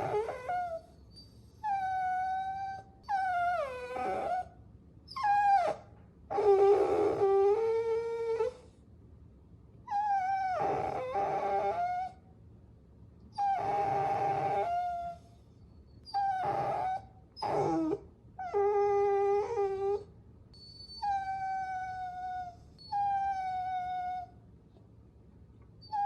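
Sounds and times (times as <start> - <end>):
puppies whining: 0.0 - 4.5, 5.1 - 8.6, 9.9 - 12.2, 13.3 - 15.4, 16.0 - 24.3, 25.8 - 26.0.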